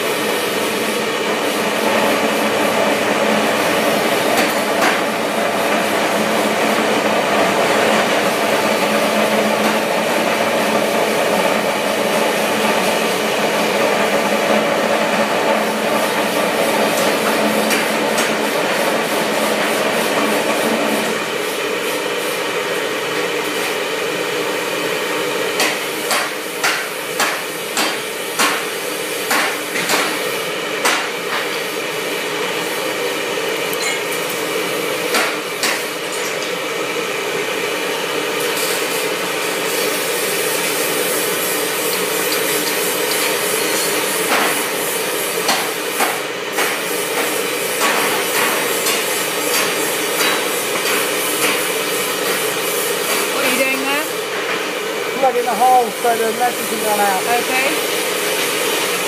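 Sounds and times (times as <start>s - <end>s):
gas burner hissing: 0.0s - 59.0s.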